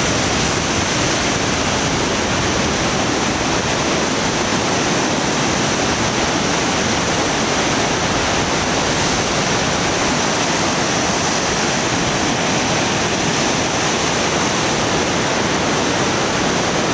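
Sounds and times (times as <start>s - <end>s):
river rushing through rapids: 0.0s - 16.9s.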